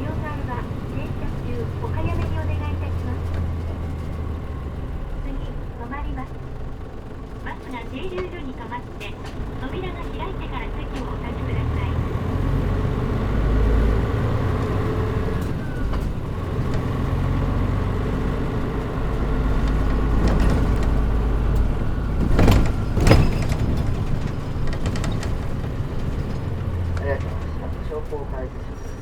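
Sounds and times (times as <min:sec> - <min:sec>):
bus diesel engine humming: 0:00.0 - 0:29.0.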